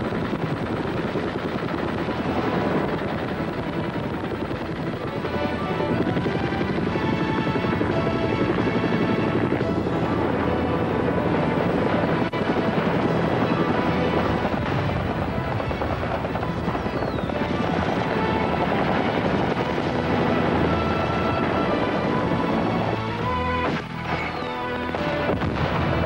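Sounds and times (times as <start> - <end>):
film score music: 0.0 - 26.0
helicopter rotors: 0.0 - 26.0.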